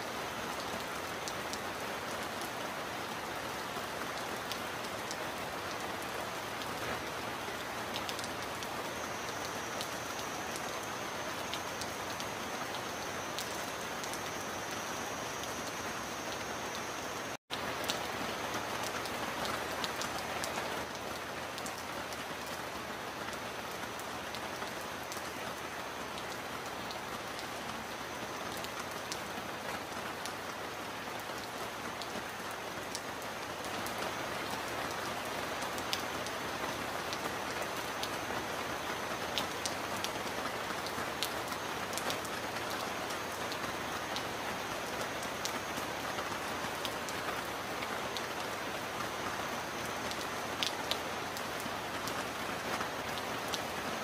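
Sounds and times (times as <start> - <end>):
heavy rain on a metal roof: 0.0 - 54.0.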